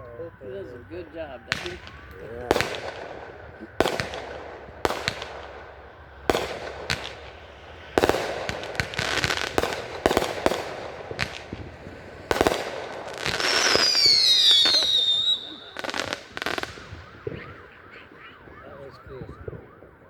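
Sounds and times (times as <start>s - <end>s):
fireworks bangs echoing: 0.0s - 20.0s
rapid crackling pops: 0.0s - 20.0s.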